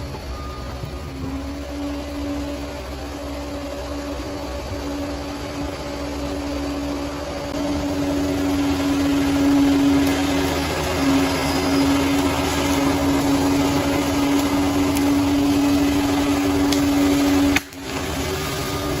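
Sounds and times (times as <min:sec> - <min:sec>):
bulldozer engine whining: 0:00.0 - 0:19.0
rough machine sound: 0:00.0 - 0:19.0.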